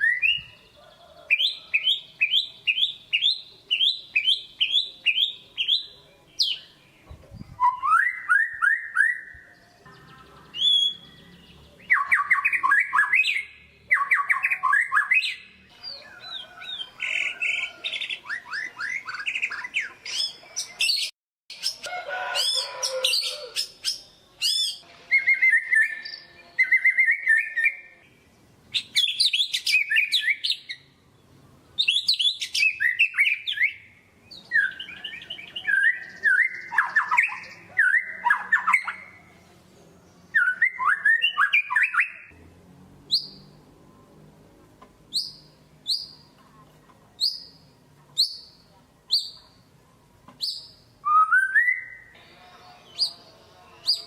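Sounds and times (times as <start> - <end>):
bird singing varied song: 0.0 - 42.4, 43.0 - 43.6, 45.1 - 49.7, 50.3 - 54.0.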